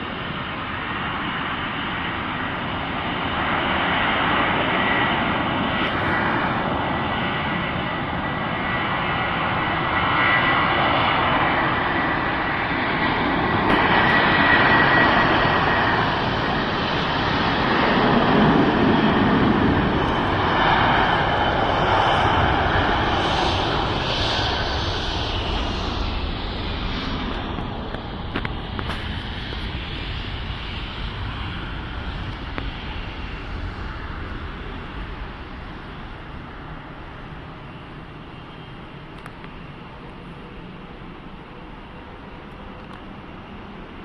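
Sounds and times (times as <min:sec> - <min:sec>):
jet engines at takeoff: 0:00.0 - 0:44.0.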